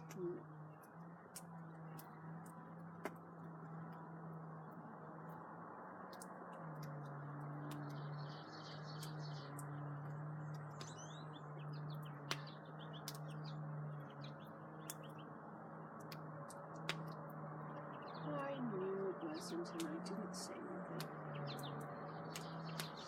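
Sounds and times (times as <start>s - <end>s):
campfire crackling: 0.0s - 23.0s
small birds chirping: 0.0s - 23.0s.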